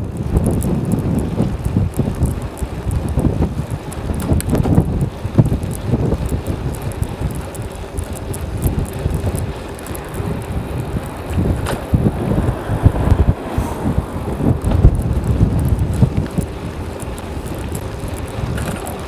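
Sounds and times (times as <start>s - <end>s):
bicycle clicks and rattles: 0.0s - 19.0s
wind buffeting microphone: 0.0s - 19.0s.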